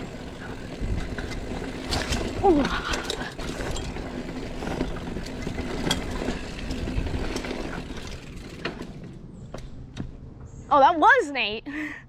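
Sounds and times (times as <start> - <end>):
bike tyres rushing on dirt: 0.0 - 9.9
bike clicks and knocks: 0.5 - 10.6.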